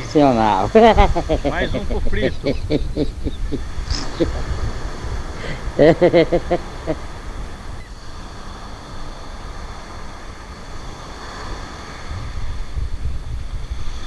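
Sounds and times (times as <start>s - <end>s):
breaking surf: 0.0s - 14.0s
wind rumbling on microphone: 0.0s - 14.0s.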